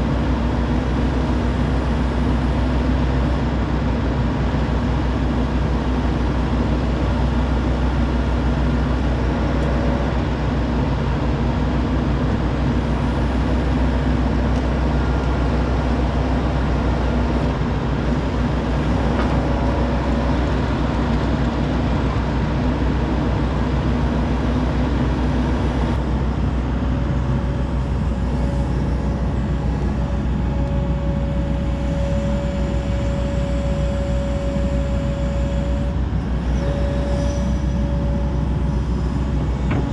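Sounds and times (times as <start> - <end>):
excavator diesel engine rumbling: 0.0 - 39.9
steady high whine: 0.0 - 39.9.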